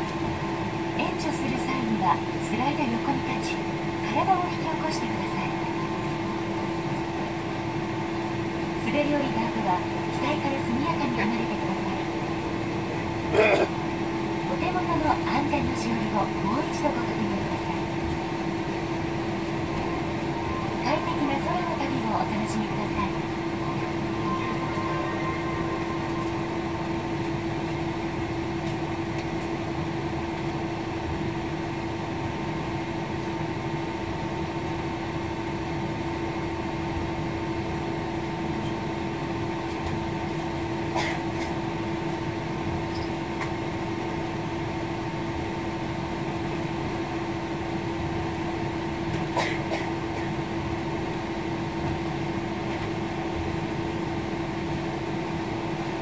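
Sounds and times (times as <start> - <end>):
jet cabin hum: 0.0 - 56.0.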